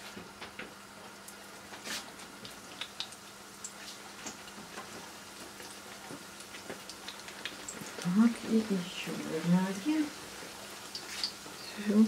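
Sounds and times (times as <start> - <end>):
faint sizzle in frying pan: 0.0 - 12.0
oil crackling and popping: 0.1 - 12.0.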